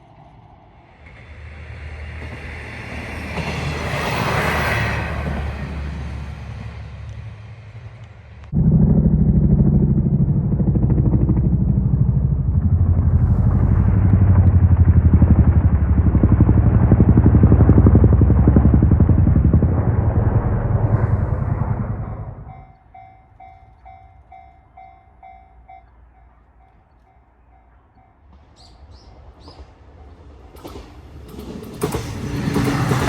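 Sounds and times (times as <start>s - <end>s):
diesel railcar engine throbbing: 0.0s - 33.0s
passing train: 0.0s - 33.0s.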